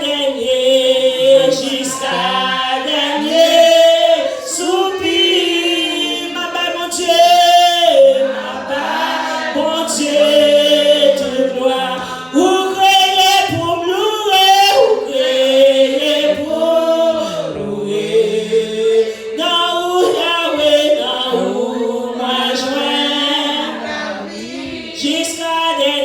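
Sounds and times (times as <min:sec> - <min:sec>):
congregation singing: 0:00.0 - 0:26.0.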